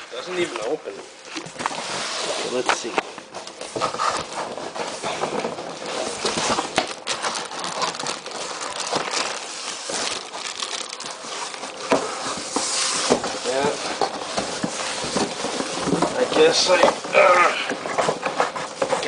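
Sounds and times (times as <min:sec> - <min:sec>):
cardboard box rustling and scraping: 0:00.3 - 0:19.0.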